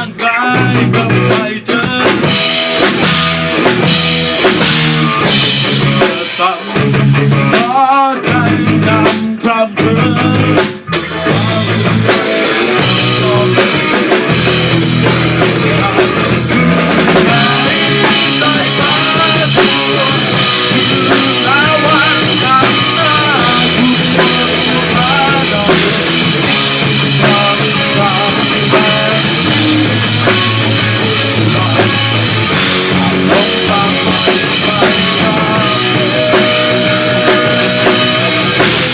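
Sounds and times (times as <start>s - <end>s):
rock band music: 0.0s - 38.9s.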